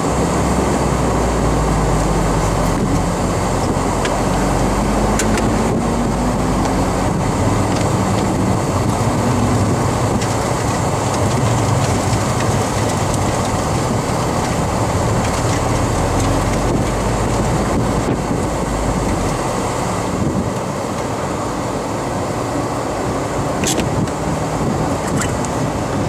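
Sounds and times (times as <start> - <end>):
car engine running: 0.0 - 26.0
tyre and wind noise: 0.0 - 26.0.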